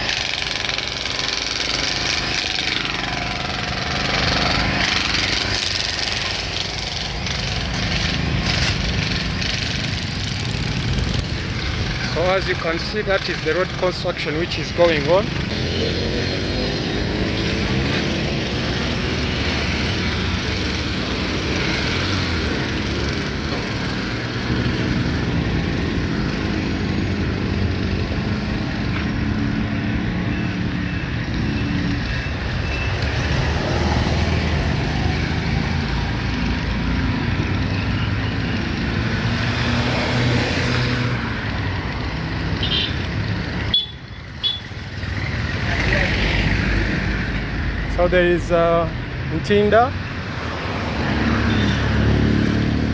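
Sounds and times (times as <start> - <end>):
steady road noise: 0.0 - 52.9
vehicles passing: 0.0 - 52.9.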